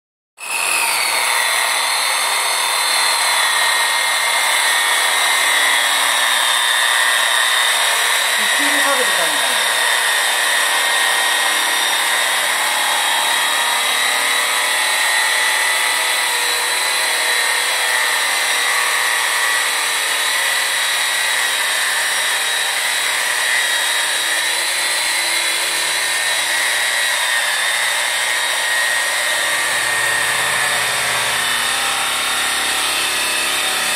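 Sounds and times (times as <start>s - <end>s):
electric power brush whining: 0.4s - 33.9s.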